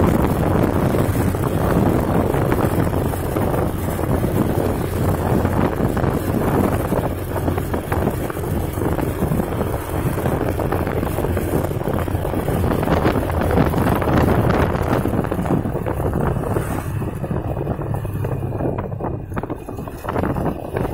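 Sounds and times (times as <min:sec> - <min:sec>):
tyres on asphalt: 0:00.0 - 0:20.9
vehicle engine rumble: 0:00.0 - 0:20.9
wind rushing over microphone: 0:00.0 - 0:20.9.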